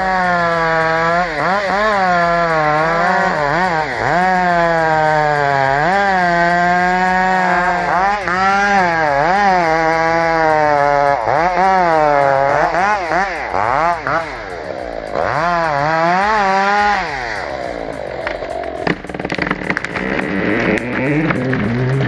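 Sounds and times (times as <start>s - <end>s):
chainsaw cutting tree trunk: 0.0s - 14.2s, 15.2s - 22.0s.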